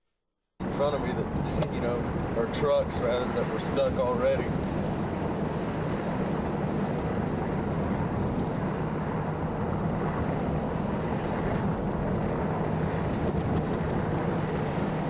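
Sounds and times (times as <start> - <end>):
vehicle engine and tyre hum: 0.6 - 15.0.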